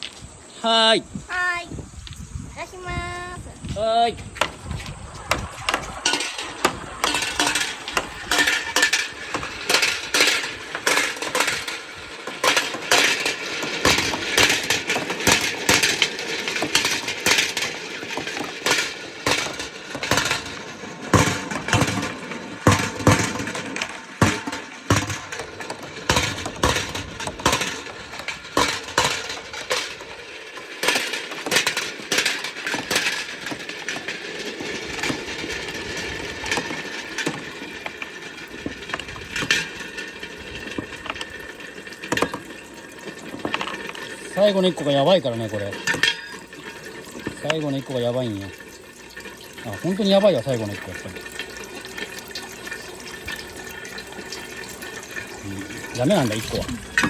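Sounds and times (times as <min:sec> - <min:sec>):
marbles rolling down a track: 0:04.3 - 0:57.0
marbles clicking and clacking: 0:04.4 - 0:57.0.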